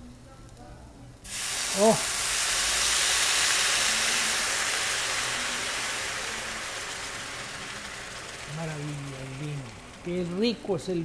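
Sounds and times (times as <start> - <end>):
wine hissing and sizzling in pan: 1.2 - 11.0.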